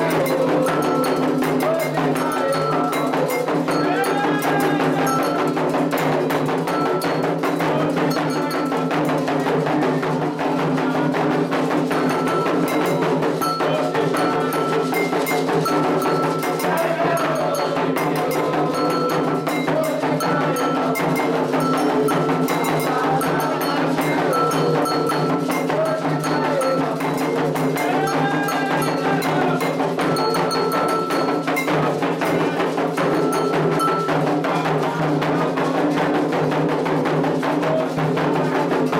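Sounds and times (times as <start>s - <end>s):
metal bell ringing: 0.0s - 35.6s
voices singing: 0.0s - 38.7s
hand drums beating: 0.0s - 38.9s.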